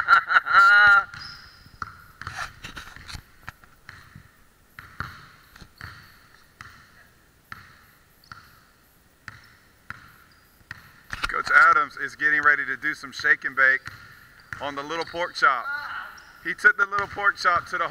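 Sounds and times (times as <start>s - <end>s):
basketball bouncing on wooden floor: 1.1s - 11.7s, 12.4s - 15.4s, 16.2s - 17.9s.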